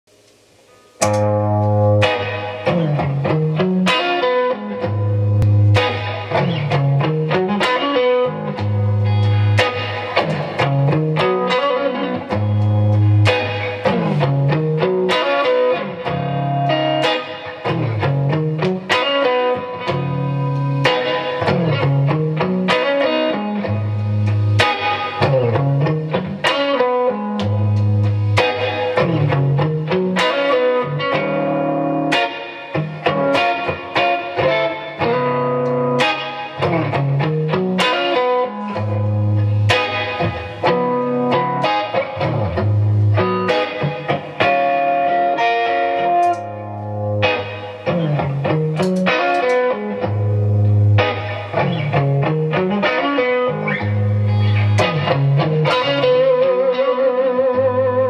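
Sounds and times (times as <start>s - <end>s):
electric guitar blues riff: 0.2s - 58.0s
plucked single-note guitar lines: 0.7s - 58.0s.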